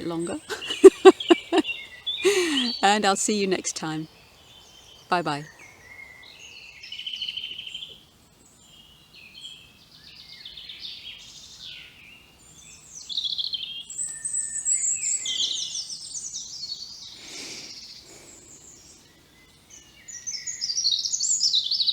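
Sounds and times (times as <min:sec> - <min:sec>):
loud fast trilling birdsong: 0:00.0 - 0:08.0, 0:08.8 - 0:21.9
birds singing: 0:00.0 - 0:21.9.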